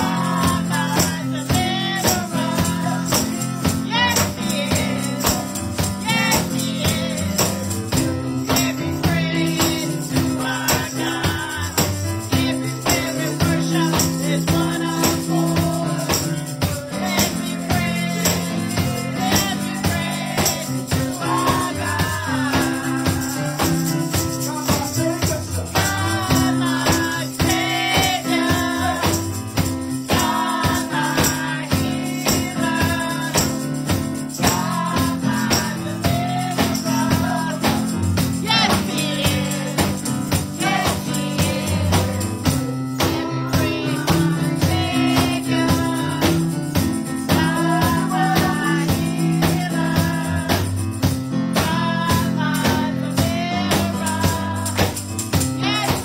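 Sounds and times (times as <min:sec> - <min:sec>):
drums: 0:00.0 - 0:56.0
tambourine-like jingle: 0:00.0 - 0:56.0
voices singing: 0:00.0 - 0:56.0.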